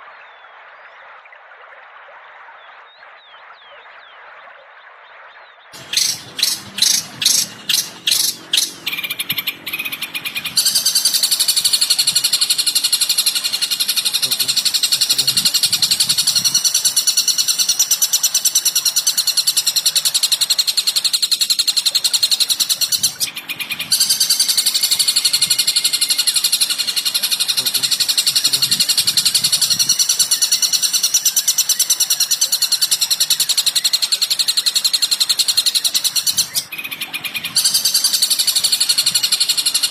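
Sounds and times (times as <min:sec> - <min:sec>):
bird chirps: 0:05.0 - 0:39.9
fast high-pitched bird trilling: 0:05.8 - 0:39.9.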